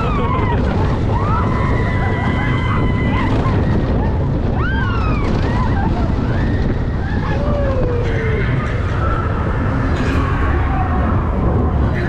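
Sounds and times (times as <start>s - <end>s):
riders whooping and crying: 0.0s - 12.0s
roller coaster train rumbling: 0.0s - 12.0s
wind buffeting microphone: 0.0s - 12.0s.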